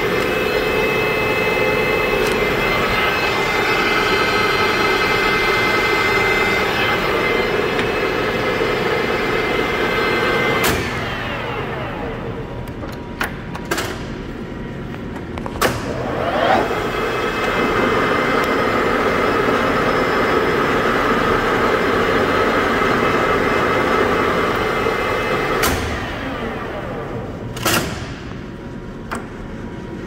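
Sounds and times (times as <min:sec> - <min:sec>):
lathe gearing whine: 0:00.0 - 0:27.6.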